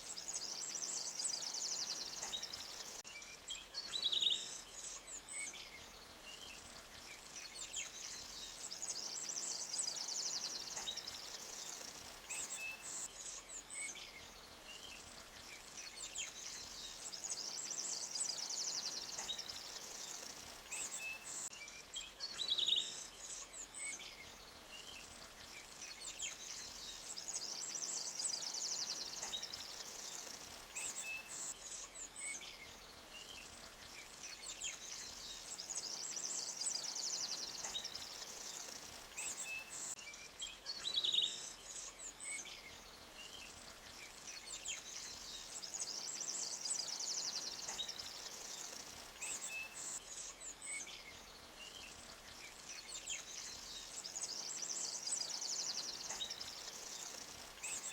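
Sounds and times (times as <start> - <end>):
faint steady hiss: 0.0 - 57.9
small birds chirping: 0.0 - 57.9.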